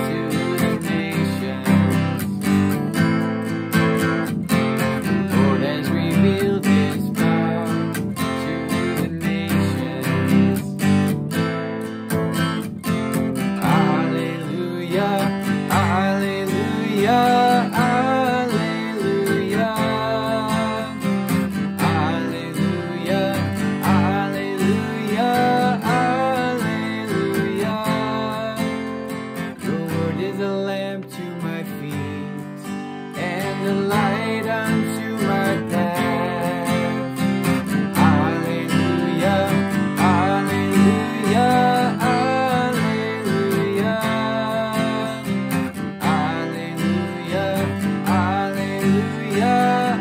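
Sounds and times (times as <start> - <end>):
man singing: 0.0 - 11.6, 13.4 - 50.0
acoustic guitar strumming: 0.0 - 50.0.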